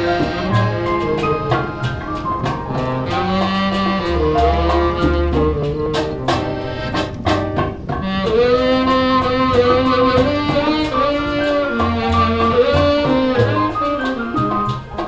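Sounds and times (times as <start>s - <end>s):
instrumental song with steady beat: 0.0s - 15.0s.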